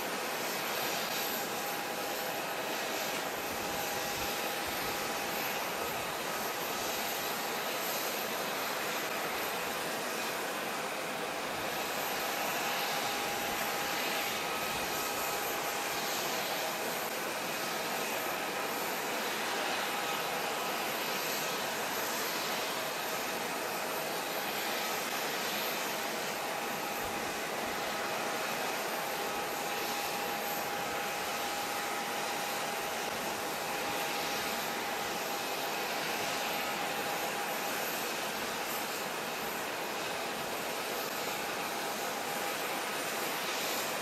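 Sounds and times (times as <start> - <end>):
jet engines taxiing: 0.0 - 44.0.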